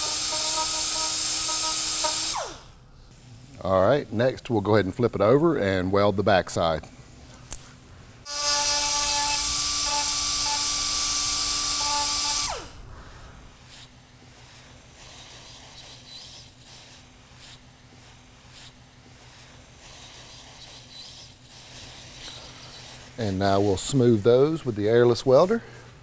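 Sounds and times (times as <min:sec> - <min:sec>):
hot-gas welder hissing: 0:00.0 - 0:04.3, 0:08.2 - 0:25.9.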